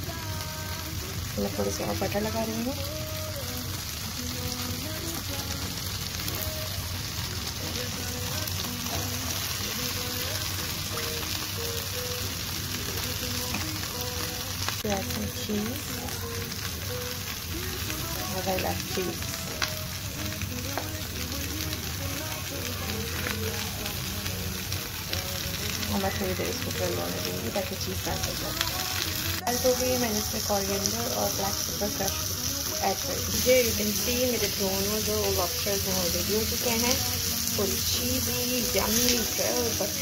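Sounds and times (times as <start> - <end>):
lobster sizzling on a grill pan: 0.0 - 40.0.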